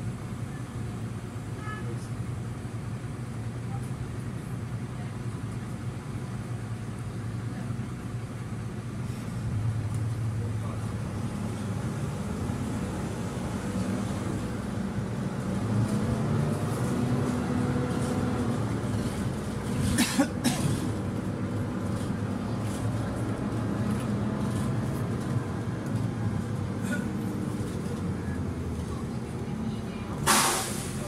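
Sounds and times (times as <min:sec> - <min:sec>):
bus engine hum: 0:00.0 - 0:31.0
road rumble: 0:00.0 - 0:31.0.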